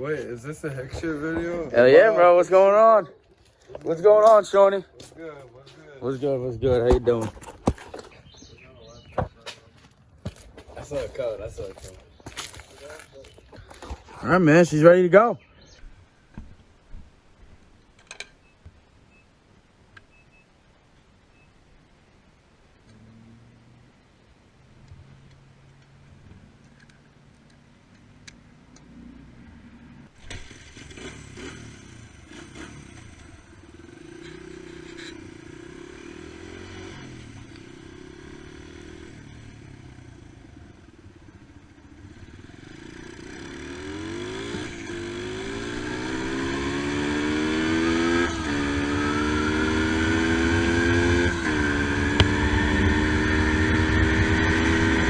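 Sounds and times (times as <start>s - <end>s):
motorcycle engine idling and revving: 0.0s - 14.6s, 24.8s - 55.0s.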